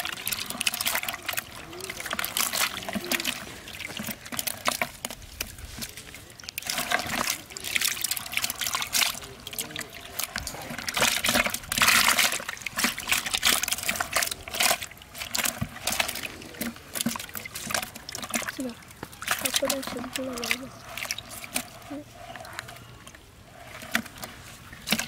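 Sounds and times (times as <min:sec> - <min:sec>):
water splashing in plastic bucket: 0:00.0 - 0:25.0.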